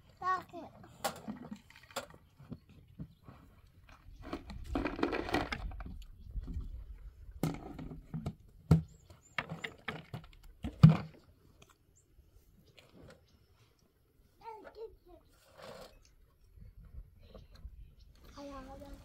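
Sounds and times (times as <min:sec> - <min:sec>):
rustling and scraping: 0:00.3 - 0:11.8, 0:12.4 - 0:19.0.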